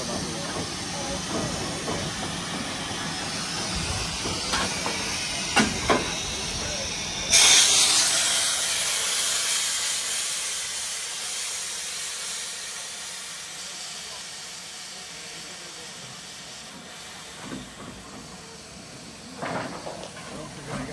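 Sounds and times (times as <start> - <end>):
steam hissing from locomotive: 0.0 - 20.9.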